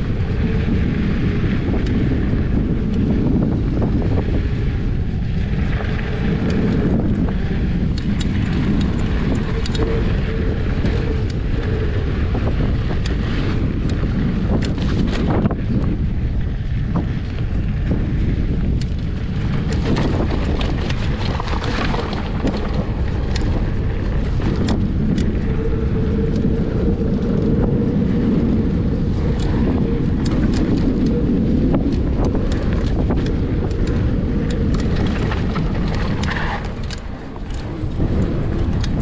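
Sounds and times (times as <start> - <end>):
bike clicking and rattling: 0.0 - 39.0
bike tyres rolling over dirt: 0.0 - 39.0
wind buffeting microphone: 0.0 - 39.0.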